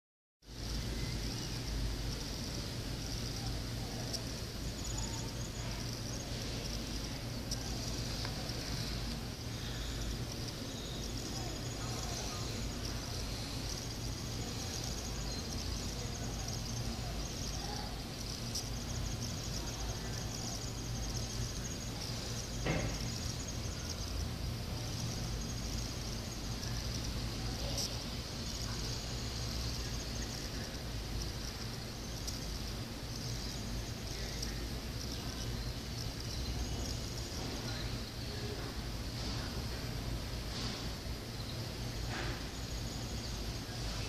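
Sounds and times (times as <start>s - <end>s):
low steady hum: 0.4s - 44.0s
insect chorus chirring: 0.5s - 44.0s.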